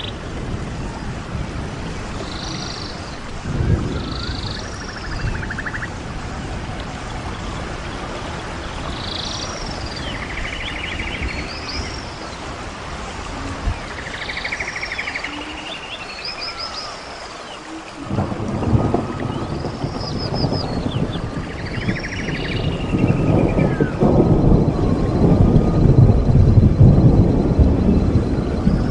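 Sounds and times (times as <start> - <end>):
steady rain-like hiss: 0.0 - 28.9.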